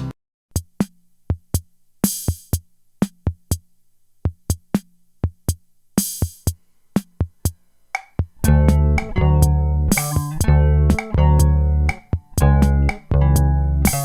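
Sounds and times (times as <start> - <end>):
drum machine beat: 0.0 - 14.0.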